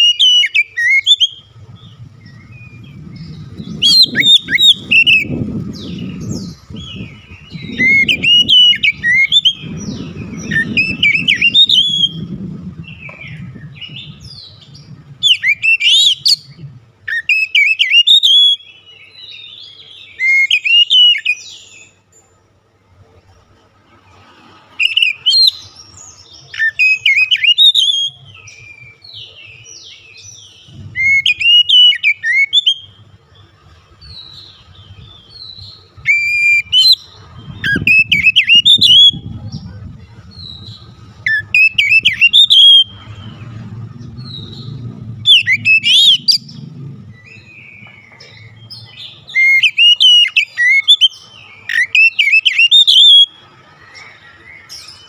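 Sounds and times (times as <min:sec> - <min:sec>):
bird singing whistles and trills: 0:00.0 - 0:22.2, 0:24.8 - 0:55.0.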